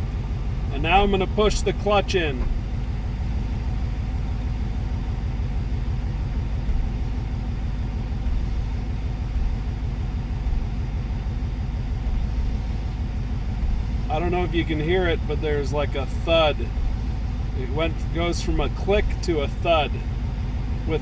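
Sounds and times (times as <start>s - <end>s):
car engine idling: 0.0s - 21.0s
regular engine thud: 0.0s - 21.0s.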